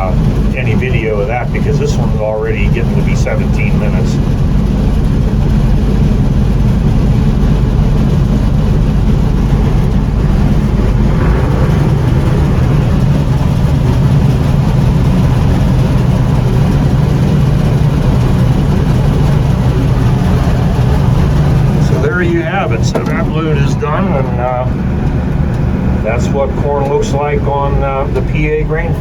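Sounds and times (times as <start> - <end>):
combine harvester humming: 0.0 - 29.0.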